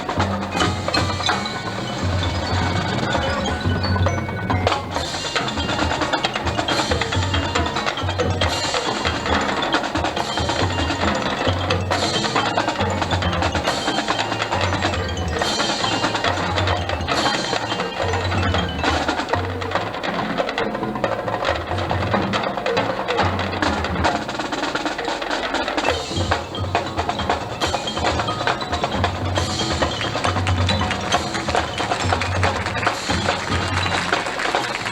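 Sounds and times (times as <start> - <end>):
marching band playing: 0.0 - 34.9
percussion: 0.0 - 34.9.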